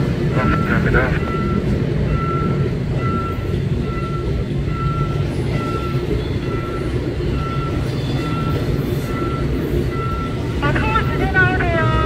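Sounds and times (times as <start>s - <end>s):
level crossing warning bell: 0.0s - 12.0s
train wheels rumbling on rail: 0.0s - 12.0s.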